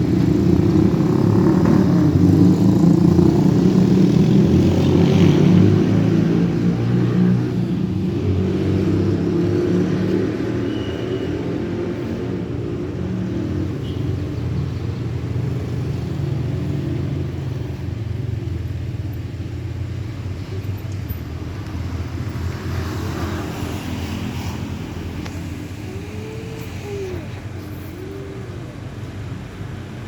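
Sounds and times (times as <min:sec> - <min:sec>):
vehicle engine low rumble: 0:00.0 - 0:30.0.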